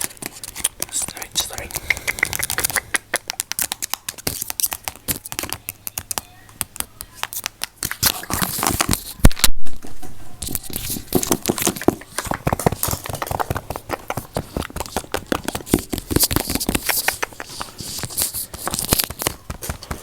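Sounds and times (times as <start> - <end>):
crackling scratching at microphone: 0.0 - 5.5, 7.3 - 20.0.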